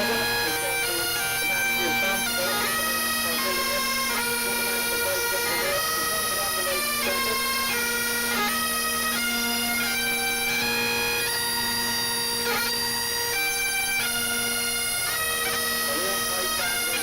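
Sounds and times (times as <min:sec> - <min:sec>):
bagpipes playing a tune: 0:00.0 - 0:17.0.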